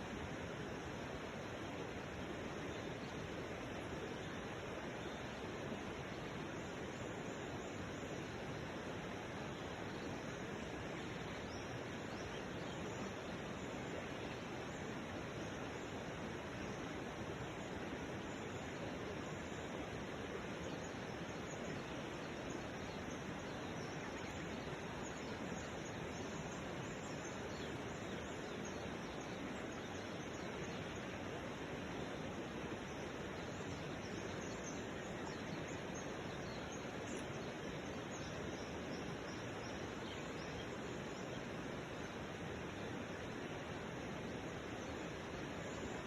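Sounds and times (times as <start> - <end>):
outdoor background hiss: 0.0 - 46.0.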